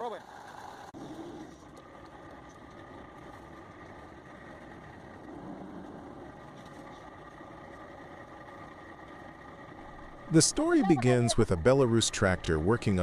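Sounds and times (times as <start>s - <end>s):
faint vehicle engine running: 0.0s - 13.0s.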